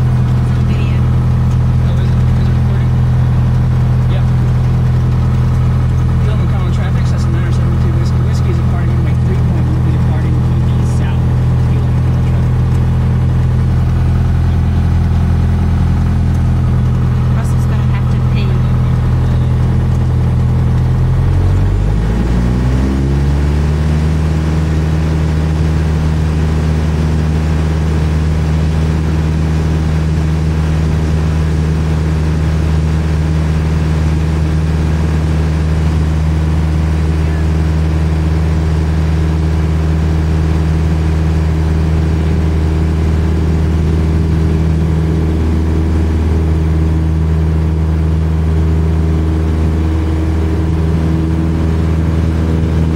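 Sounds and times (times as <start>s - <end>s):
airplane engine and propeller: 0.0s - 52.9s.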